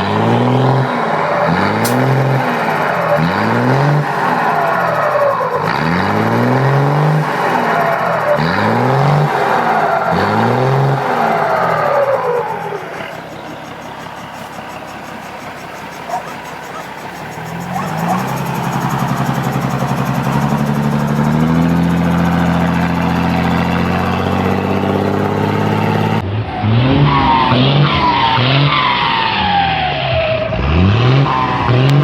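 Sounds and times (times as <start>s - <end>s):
diesel truck engine revving: 0.0s - 32.0s
passing truck whistle sliding down: 0.0s - 32.0s.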